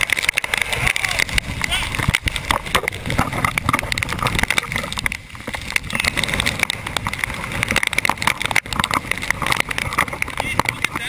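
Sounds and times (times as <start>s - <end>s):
rain and debris hitting microphone: 0.0s - 11.0s
wind buffeting microphone: 0.0s - 11.0s.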